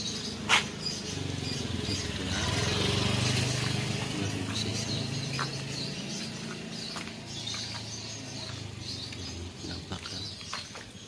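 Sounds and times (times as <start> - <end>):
birds chirping: 0.0 - 11.0
low engine hum: 0.0 - 11.0.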